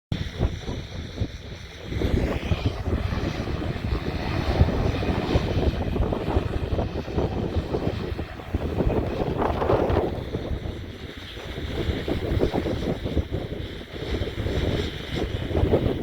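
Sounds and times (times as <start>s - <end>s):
uneven low rumble: 0.1s - 13.6s
propeller airplane engine running: 0.1s - 16.0s.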